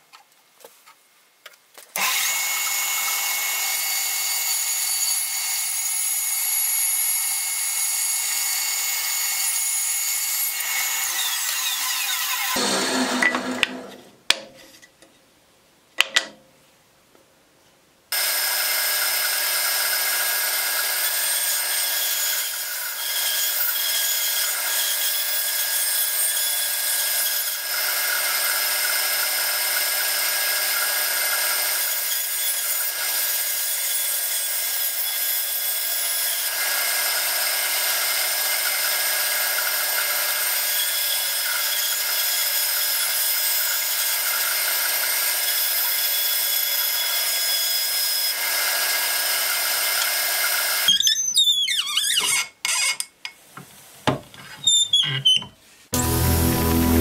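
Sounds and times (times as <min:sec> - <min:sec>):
bandsaw cutting wood: 0:02.0 - 0:14.2, 0:18.2 - 0:51.2, 0:54.7 - 0:57.0.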